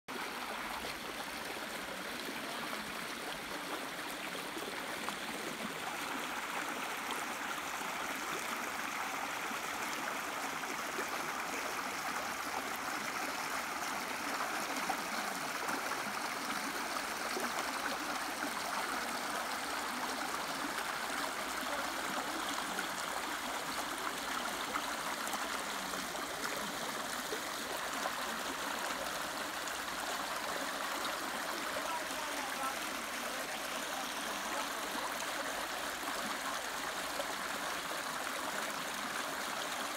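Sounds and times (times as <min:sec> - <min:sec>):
creek babbling over rocks: 0:00.1 - 0:39.9.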